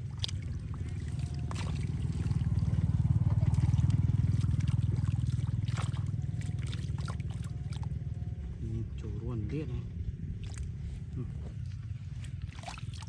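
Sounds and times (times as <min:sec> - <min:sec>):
motor running with pulsing rumble: 0:00.0 - 0:13.0.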